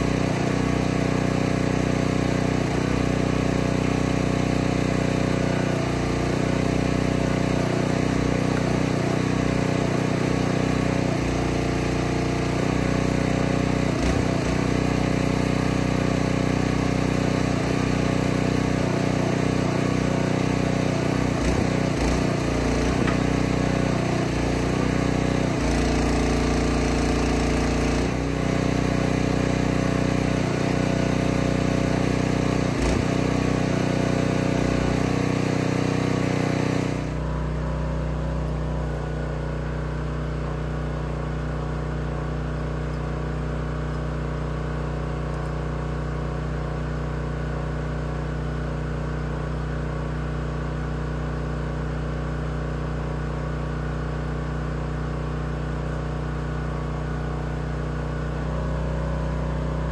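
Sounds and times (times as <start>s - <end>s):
small engine running under load: 0.0s - 59.9s.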